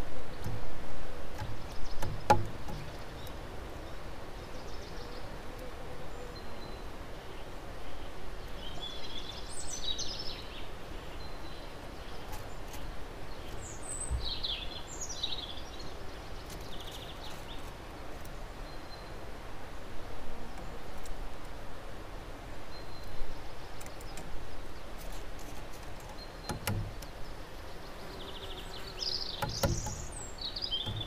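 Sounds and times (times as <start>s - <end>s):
songbirds singing: 0.0s - 31.0s
steady outdoor hiss: 0.0s - 31.0s.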